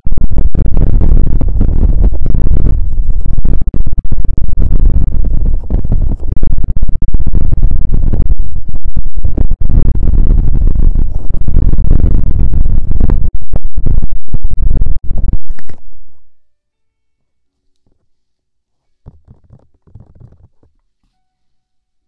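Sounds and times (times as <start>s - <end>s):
scratching on microphone: 0.0s - 16.4s, 17.5s - 21.0s.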